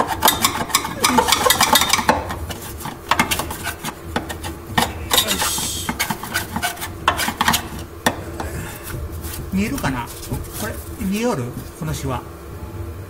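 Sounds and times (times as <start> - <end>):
metallic scraping and knocking: 0.0 - 11.8.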